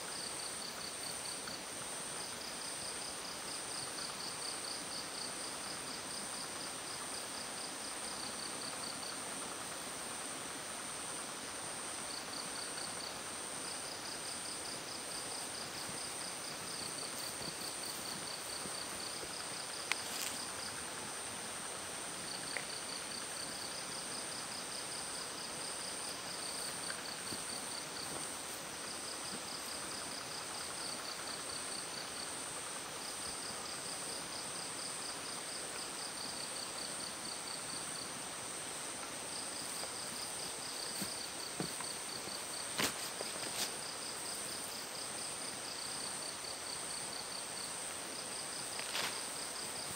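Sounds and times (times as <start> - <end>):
rapid pulsed insect chirps: 0.1 - 49.9.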